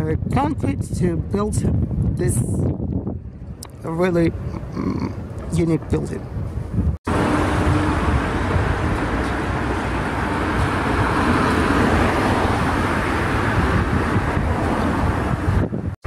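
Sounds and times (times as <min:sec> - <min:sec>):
road traffic rushing: 0:03.1 - 0:16.0.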